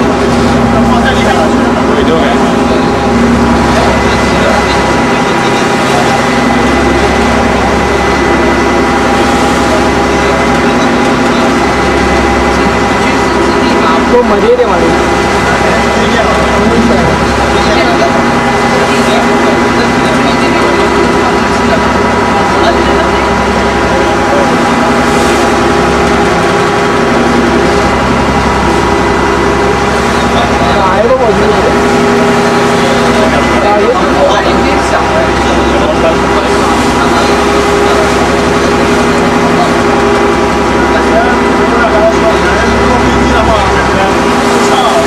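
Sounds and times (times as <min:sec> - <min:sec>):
engine droning: 0:00.0 - 0:45.0.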